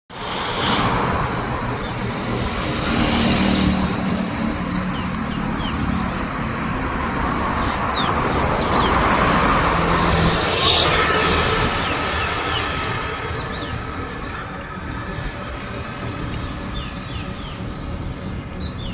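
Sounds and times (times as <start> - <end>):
road traffic: 0.1 - 18.9.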